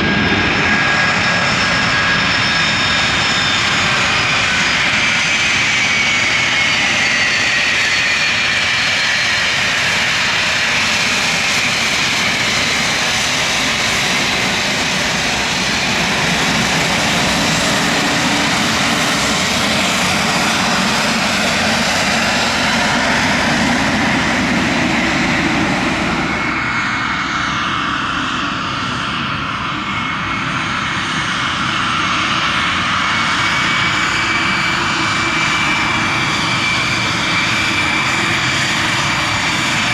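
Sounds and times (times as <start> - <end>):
aircraft engines rushing and whining: 0.0 - 39.9.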